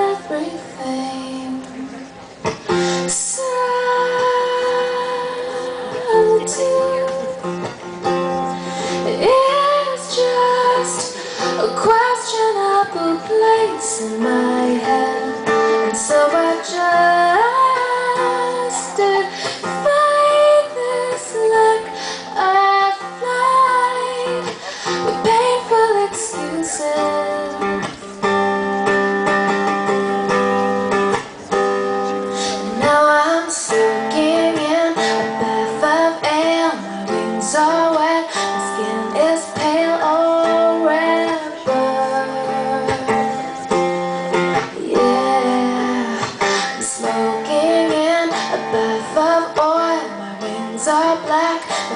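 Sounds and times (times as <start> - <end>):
woman singing: 0.0 - 1.9, 3.0 - 7.7, 8.9 - 28.0, 32.4 - 51.9
plucked and strummed guitar: 0.0 - 51.9.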